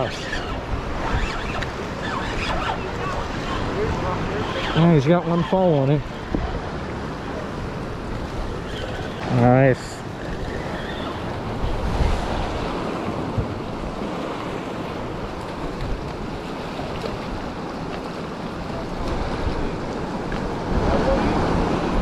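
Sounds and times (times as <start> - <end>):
rushing water churning: 0.0 - 22.0
wind buffeting microphone: 0.0 - 22.0.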